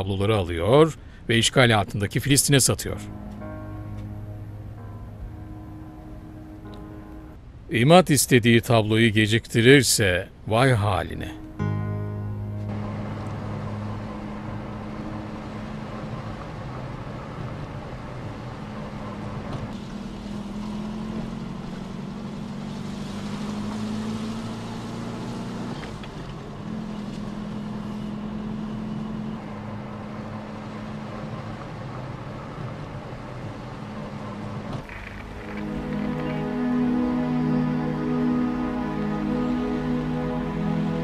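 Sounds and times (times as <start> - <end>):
road and wind noise: 0.0 - 41.0
car engine hum: 1.0 - 7.5, 11.3 - 41.0.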